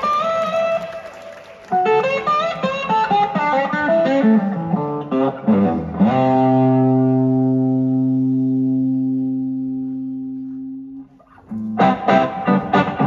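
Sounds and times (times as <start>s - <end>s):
rock band with electric guitars: 0.0s - 13.0s.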